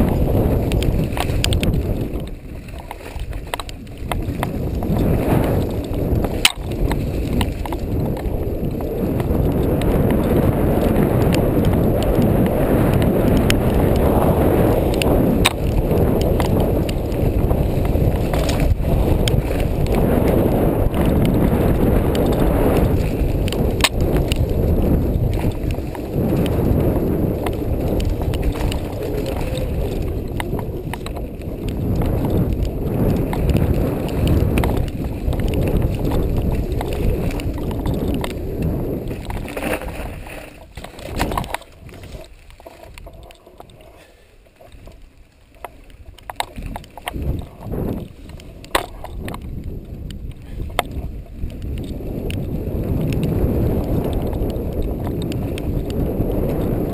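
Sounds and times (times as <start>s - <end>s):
bike and mount clicking and rattling: 0.0s - 56.9s
wind buffeting microphone: 0.0s - 56.9s.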